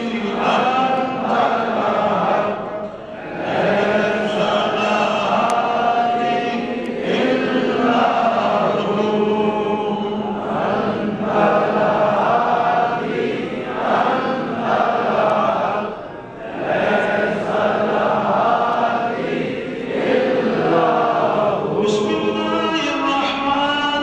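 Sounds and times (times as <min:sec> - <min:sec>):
men chanting together: 0:00.0 - 0:23.1.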